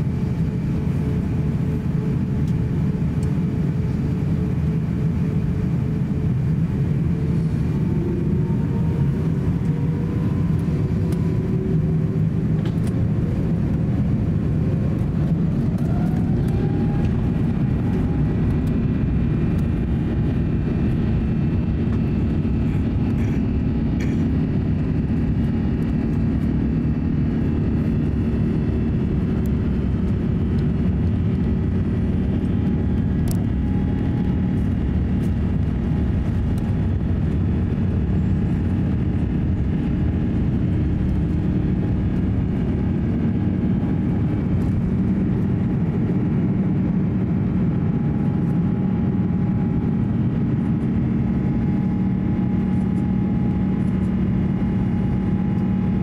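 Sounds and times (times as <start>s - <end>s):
jet engines whining: 0.0s - 56.0s
loud jet engine noise: 0.0s - 56.0s.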